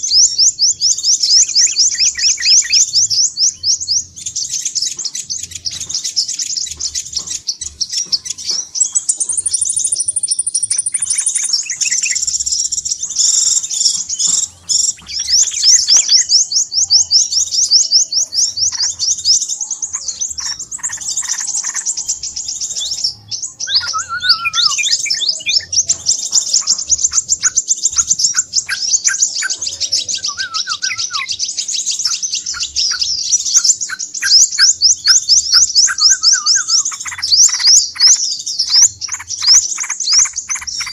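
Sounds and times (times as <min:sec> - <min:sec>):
bird chattering trills: 0:00.0 - 0:40.9.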